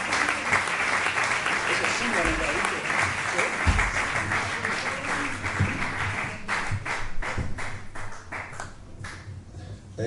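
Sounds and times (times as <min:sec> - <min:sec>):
congregation hand clapping: 0:00.0 - 0:09.3.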